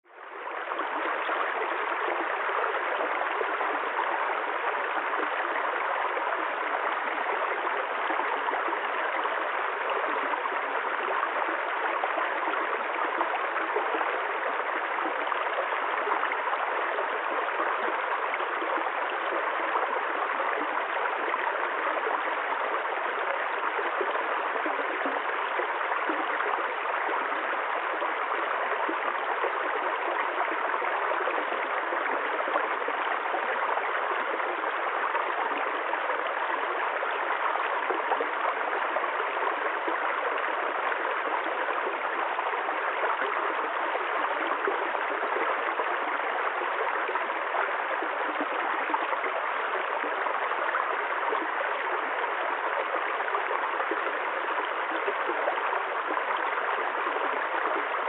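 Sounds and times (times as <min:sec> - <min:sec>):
stream babbling over stones: 0:00.1 - 0:58.0.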